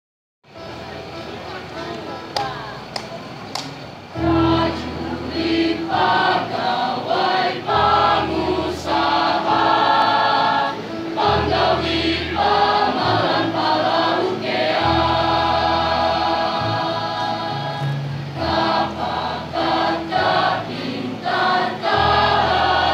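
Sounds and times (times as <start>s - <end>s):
children's choir singing in harmony: 4.1s - 22.9s.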